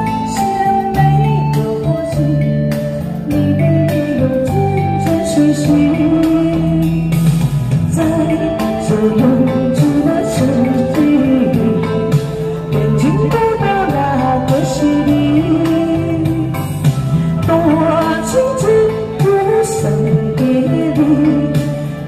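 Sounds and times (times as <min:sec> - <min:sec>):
backing track of guitar and drums: 0:00.0 - 0:22.0
woman singing into a microphone: 0:00.0 - 0:22.0.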